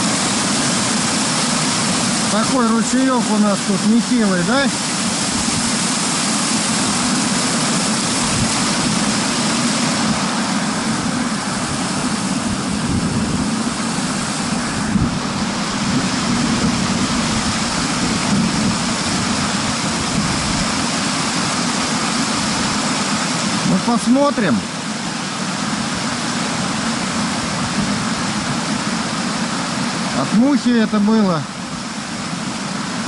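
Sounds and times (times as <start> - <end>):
fast-flowing stream water: 0.0 - 33.0.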